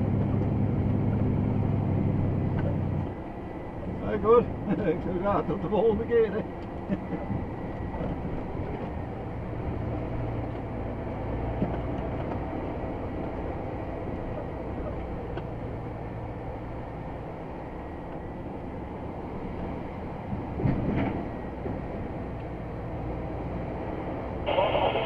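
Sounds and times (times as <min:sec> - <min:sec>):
truck diesel engine droning: 0:00.0 - 0:25.0.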